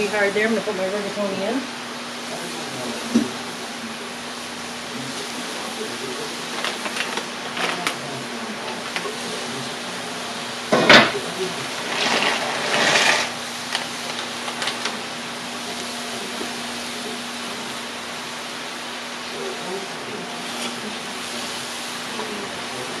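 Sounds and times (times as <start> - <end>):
house fans humming: 0.0 - 23.0.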